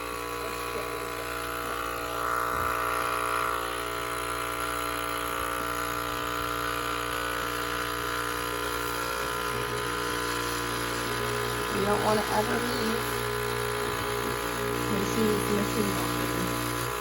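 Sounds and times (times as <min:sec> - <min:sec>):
milking machine pump humming: 0:00.0 - 0:17.0.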